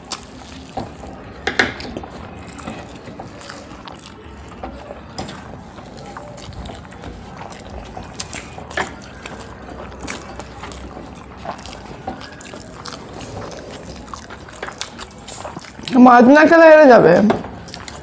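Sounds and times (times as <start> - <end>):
fingers mixing rice: 0.0 - 18.0
mouths chewing and smacking: 0.0 - 18.0.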